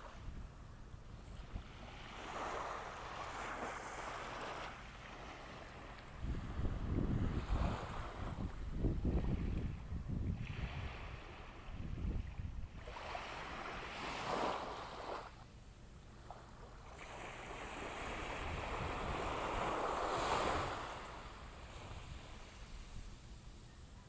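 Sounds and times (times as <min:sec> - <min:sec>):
wind rumble on microphone: 0:00.0 - 0:14.6, 0:17.7 - 0:23.4
waves washing on sandy beach: 0:01.3 - 0:15.4, 0:16.3 - 0:23.4.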